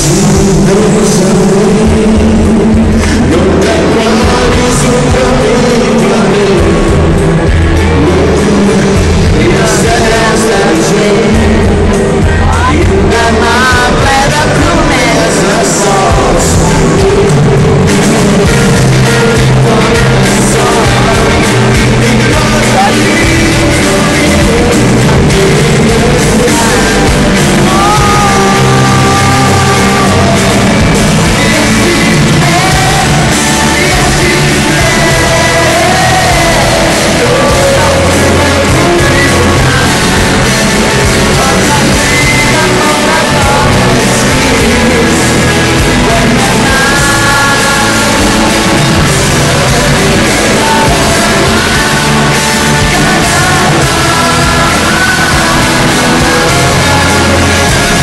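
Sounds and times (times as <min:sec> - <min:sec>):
live band with male singer: 0:00.0 - 0:58.0.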